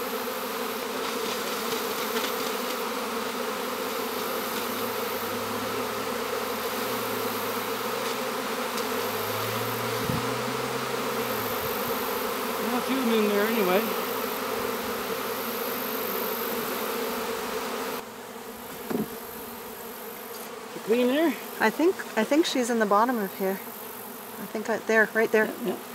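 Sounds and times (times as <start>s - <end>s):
bees buzzing drone: 0.0s - 25.9s.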